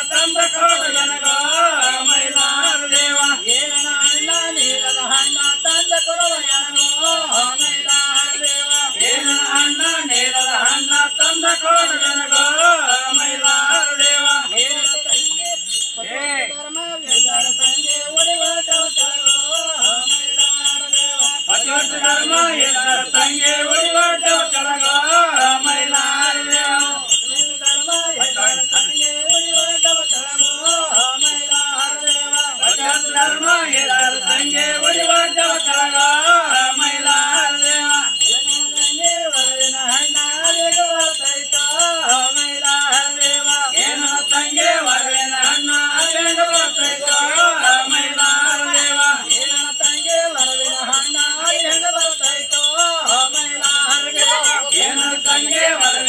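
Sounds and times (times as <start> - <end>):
men singing in chorus: 0.0 - 56.0
small hand cymbals jingling: 0.0 - 56.0.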